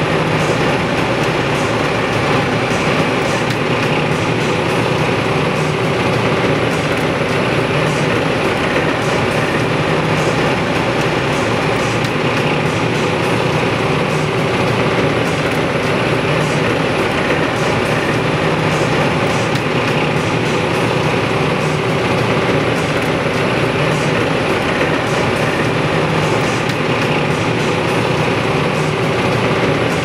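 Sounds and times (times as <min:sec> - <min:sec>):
wood chipper running: 0:00.0 - 0:30.0.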